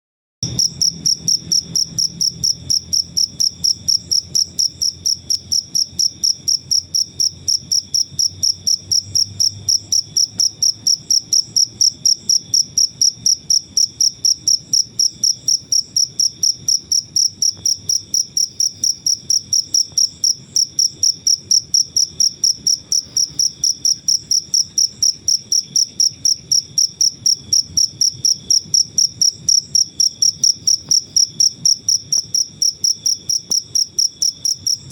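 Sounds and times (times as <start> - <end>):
cricket chirping: 0.4 - 34.9.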